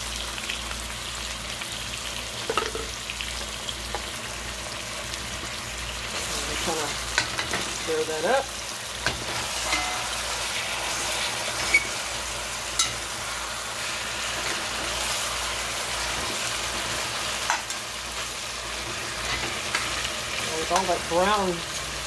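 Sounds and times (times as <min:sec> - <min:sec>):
food sizzling in a pot: 0:00.0 - 0:22.0.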